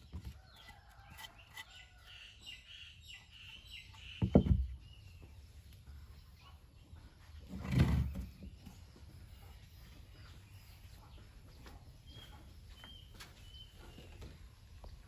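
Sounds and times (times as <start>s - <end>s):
bird chirping: 0.0s - 7.3s, 8.3s - 15.0s
faint outdoor background: 0.0s - 15.0s.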